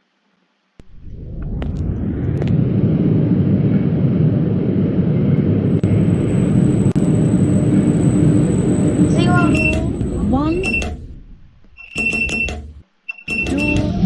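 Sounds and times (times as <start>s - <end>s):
faint high whine: 0.8s - 14.0s
lift car moving noise: 1.4s - 14.0s.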